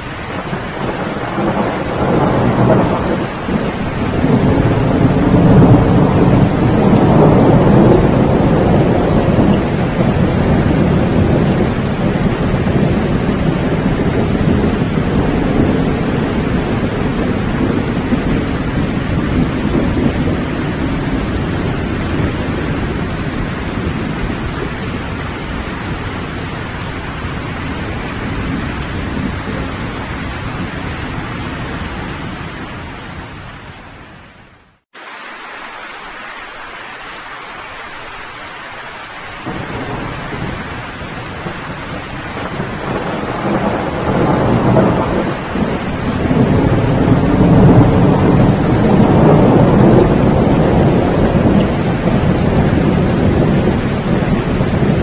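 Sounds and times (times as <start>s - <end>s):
low thunder rumbles: 0.0s - 33.4s, 39.3s - 55.0s
steady rain: 0.0s - 55.0s.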